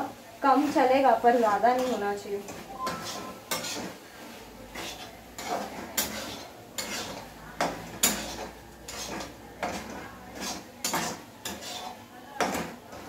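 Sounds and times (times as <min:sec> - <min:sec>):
spatula scraping a pan: 0:00.5 - 0:13.0.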